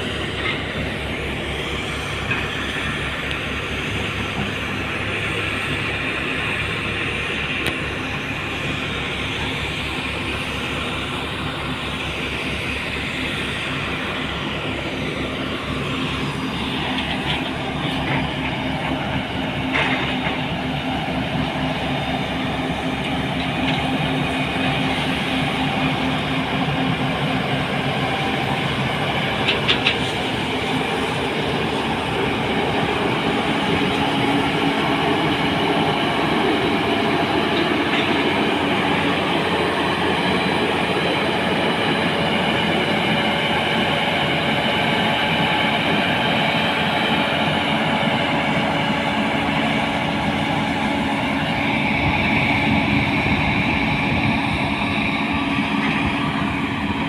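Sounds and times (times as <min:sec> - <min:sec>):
diesel machinery rumbling: 0:00.0 - 0:57.0.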